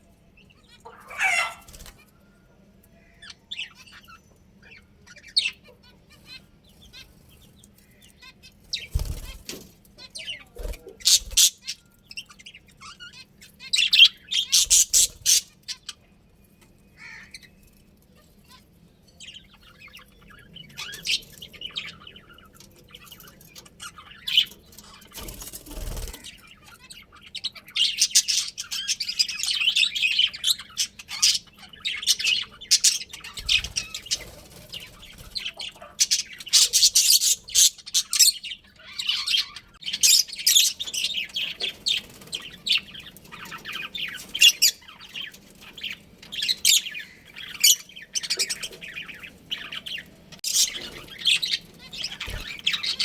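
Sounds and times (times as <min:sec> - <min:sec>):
budgerigars chirping: 0:00.4 - 0:02.2, 0:03.0 - 0:16.1, 0:18.5 - 0:53.0.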